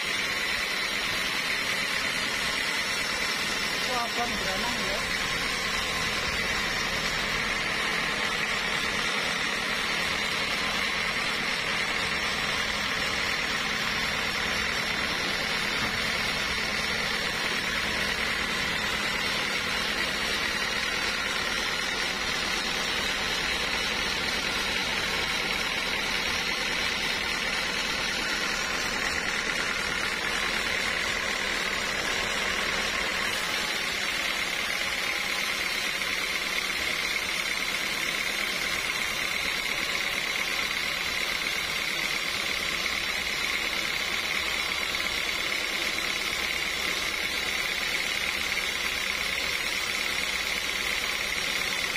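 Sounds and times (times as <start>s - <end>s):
band saw cutting log: 0.0s - 51.9s
high saw whine: 0.0s - 51.9s.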